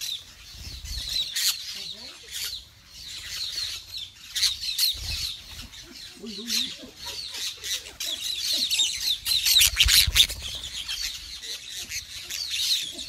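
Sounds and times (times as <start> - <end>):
parakeets chirping and screeching: 0.0 - 13.0.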